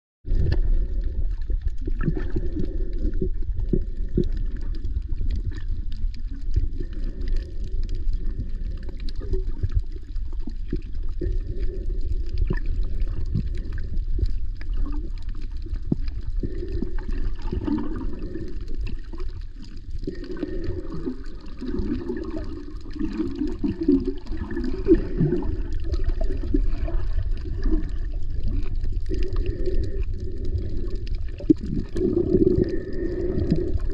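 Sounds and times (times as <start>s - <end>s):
underwater low rumble: 0.2s - 33.9s
water sloshing and gurgling: 0.2s - 33.9s.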